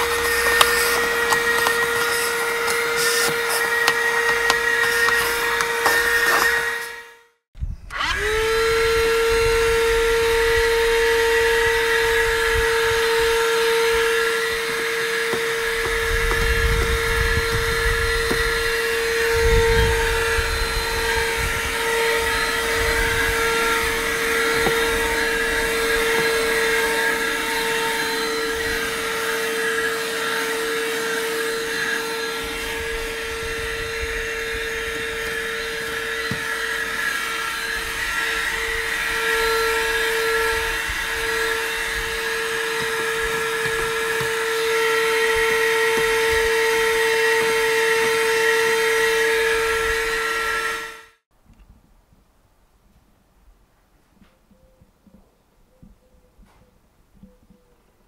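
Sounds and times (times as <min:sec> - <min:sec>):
handheld vacuum cleaner running: 0:00.0 - 0:51.2.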